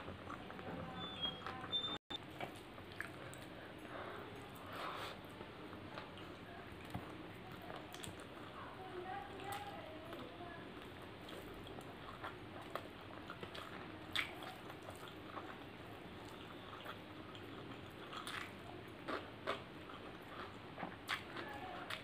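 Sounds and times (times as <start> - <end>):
close-up chewing: 0.0 - 22.0.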